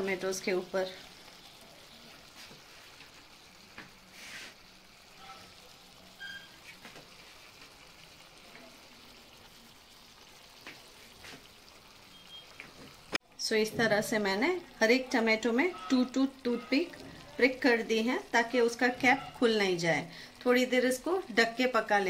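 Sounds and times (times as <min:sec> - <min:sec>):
faint sizzling from a pan: 0:00.0 - 0:22.0.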